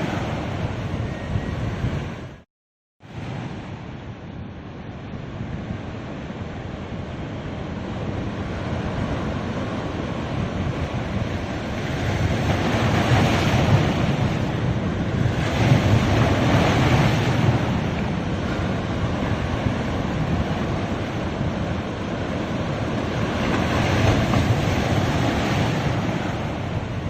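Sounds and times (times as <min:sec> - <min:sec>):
ocean surf breaking: 0:00.0 - 0:02.3, 0:03.1 - 0:27.0.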